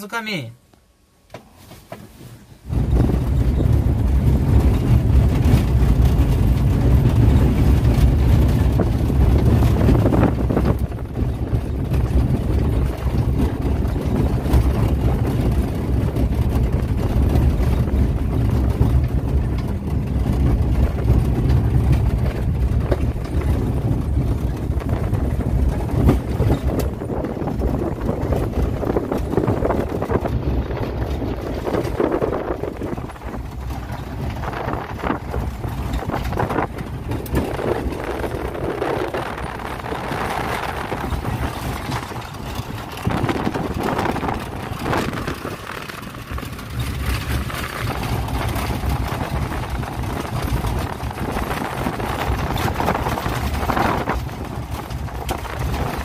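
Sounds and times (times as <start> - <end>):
engine and tyres rumbling: 0.0 - 56.0
wind on microphone: 2.6 - 56.0.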